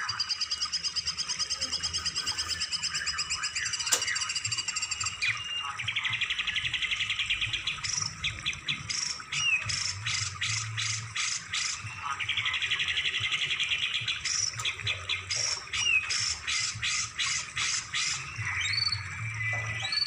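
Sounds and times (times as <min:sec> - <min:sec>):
upward-sweeping bird whistles: 0:00.0 - 0:08.2, 0:08.9 - 0:20.0
songbird chips and trills: 0:00.1 - 0:20.0.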